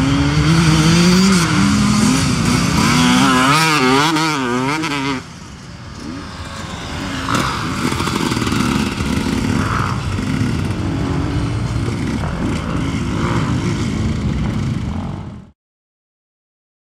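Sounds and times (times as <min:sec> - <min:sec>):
dirt bike engine revving: 0:00.0 - 0:15.5.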